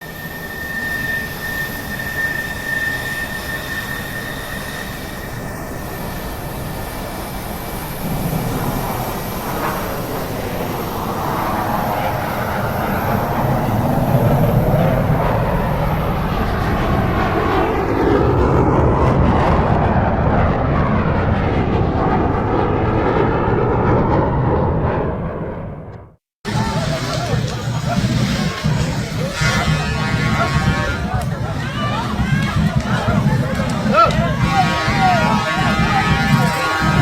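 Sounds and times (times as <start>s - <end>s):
airplane engine droning overhead: 0.0s - 37.0s.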